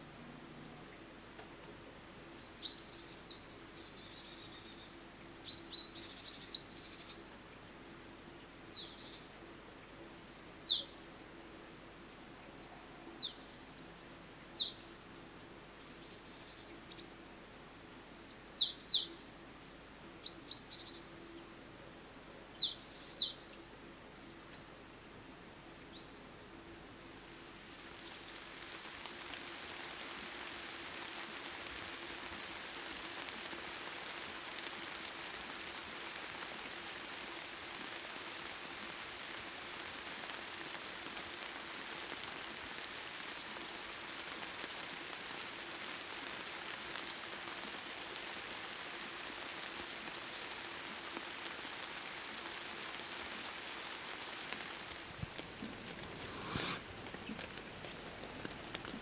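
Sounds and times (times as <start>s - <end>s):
countryside ambience: 0.0s - 59.0s
steady hiss: 0.0s - 59.0s.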